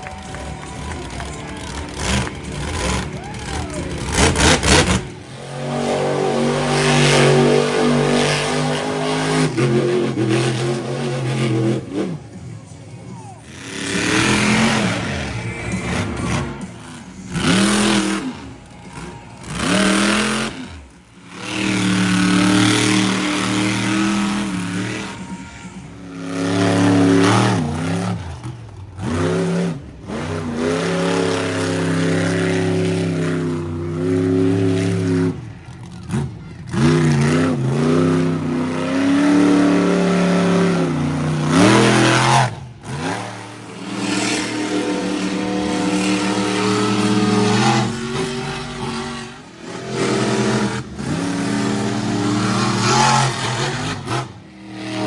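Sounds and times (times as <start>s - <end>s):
truck engines revving: 0.0s - 55.0s.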